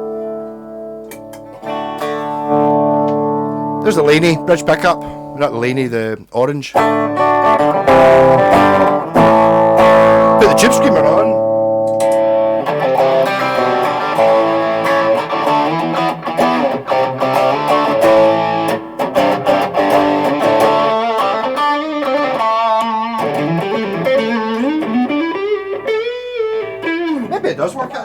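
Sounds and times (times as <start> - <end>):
overdriven electric guitar: 0.0 - 5.8, 6.8 - 28.0.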